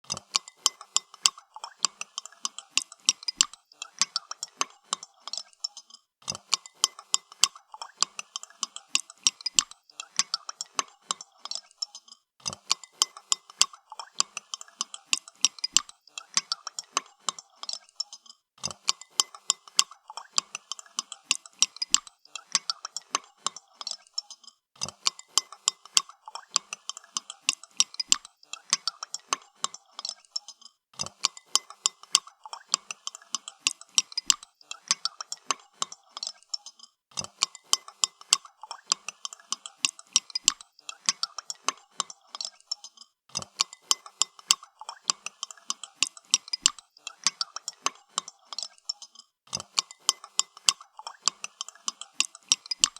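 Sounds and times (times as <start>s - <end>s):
spoon clinking in a cup: 0.1s - 52.9s.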